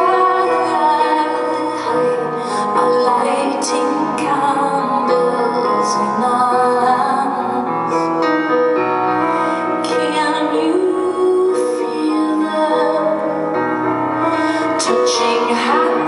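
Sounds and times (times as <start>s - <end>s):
woman singing: 0.0s - 8.1s, 9.6s - 13.7s, 14.3s - 16.0s
piano accompaniment: 0.0s - 16.0s.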